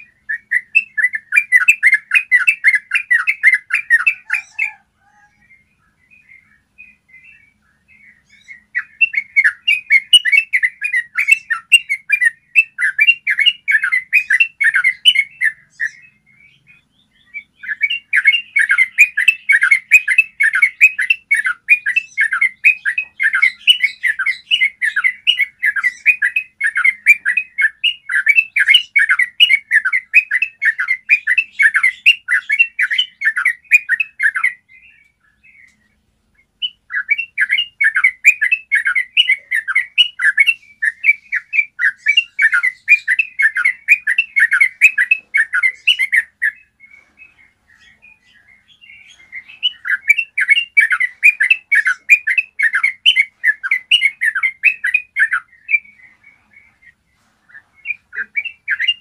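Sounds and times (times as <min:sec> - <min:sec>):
bird singing chirping notes: 0:00.0 - 0:59.0.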